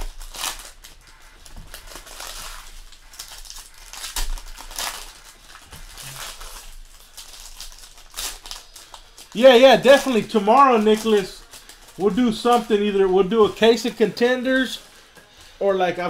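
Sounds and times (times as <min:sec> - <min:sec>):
foil wrappers tearing and crinkling: 0:00.0 - 0:15.5.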